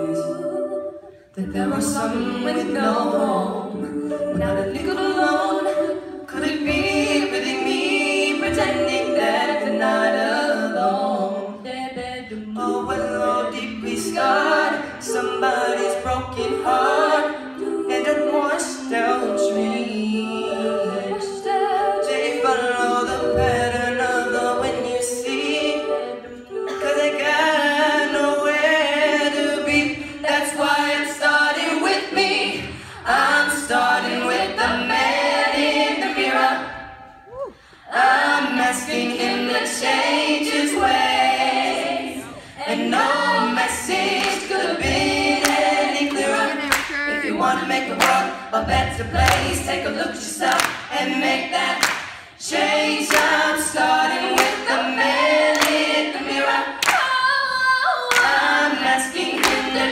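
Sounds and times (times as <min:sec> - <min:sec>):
a cappella choir singing: 0:00.0 - 0:59.9.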